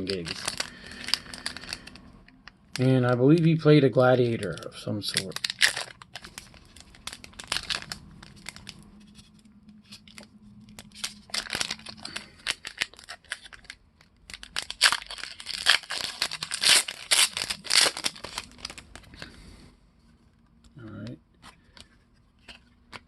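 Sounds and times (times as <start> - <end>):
foil wrapper crinkling and tearing: 0.0 - 2.1, 2.7 - 19.4.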